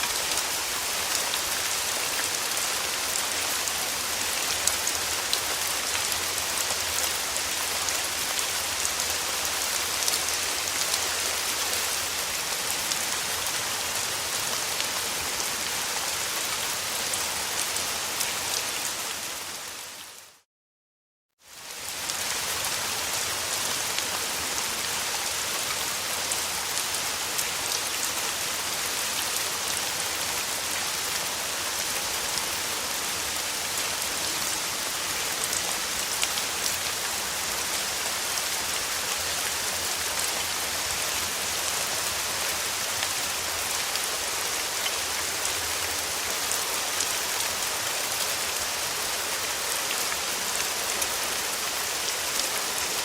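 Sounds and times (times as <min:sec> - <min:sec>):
steady rain falling: 0:00.0 - 0:20.4, 0:21.4 - 0:53.0.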